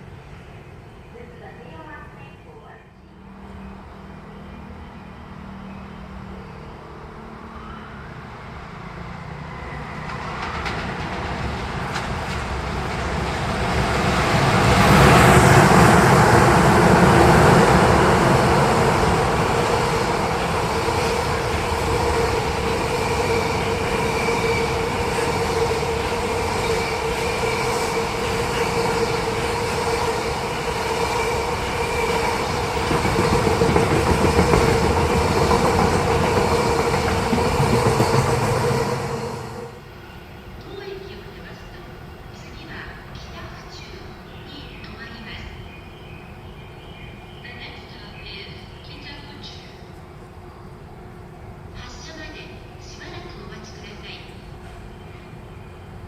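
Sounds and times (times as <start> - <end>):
train running on rails: 0.0 - 56.0.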